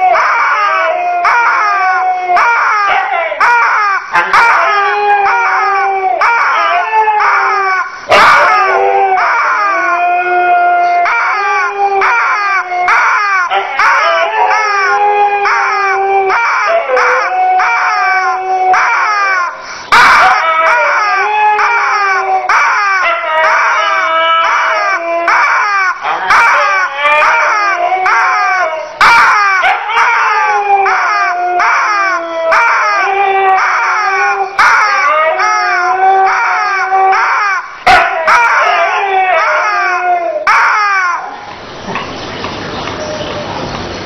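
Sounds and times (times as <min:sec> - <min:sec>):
rubber chicken toy squawking: 0:00.0 - 0:10.0, 0:11.0 - 0:41.4
dog howling: 0:00.0 - 0:41.5.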